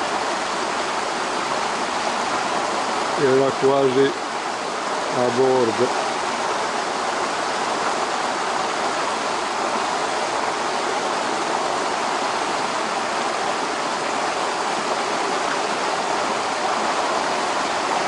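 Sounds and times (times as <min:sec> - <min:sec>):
fast-flowing stream rushing: 0:00.0 - 0:18.0.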